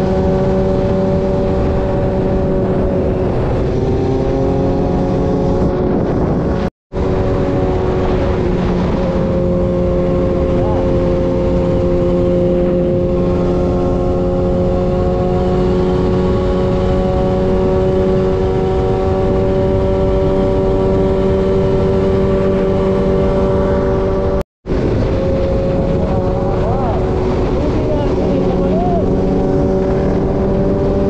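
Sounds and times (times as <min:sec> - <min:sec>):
motorcycle engine cruising: 0:00.0 - 0:31.0
wind noise: 0:00.0 - 0:31.0.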